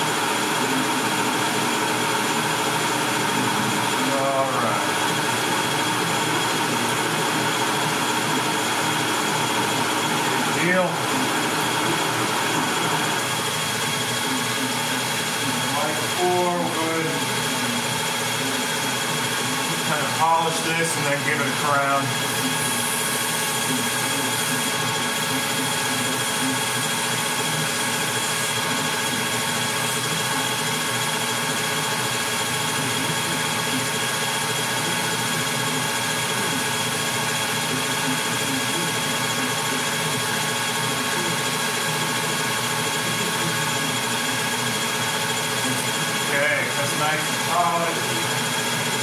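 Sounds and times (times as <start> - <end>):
metal lathe whining: 0.0 - 49.0.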